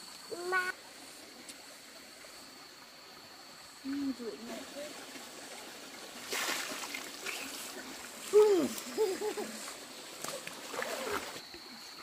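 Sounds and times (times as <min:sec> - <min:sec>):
shallow stream splashing: 0:00.7 - 0:12.0.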